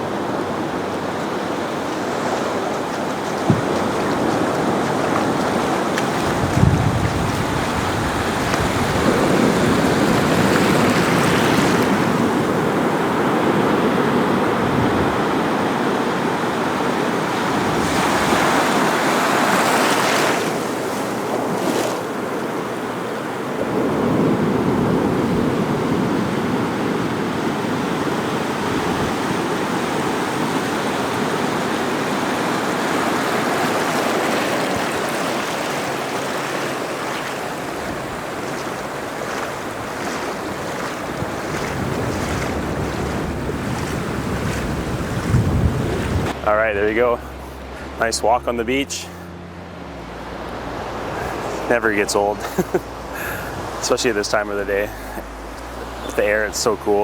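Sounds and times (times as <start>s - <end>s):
surf breaking on a beach: 0.0s - 48.9s, 50.1s - 57.0s.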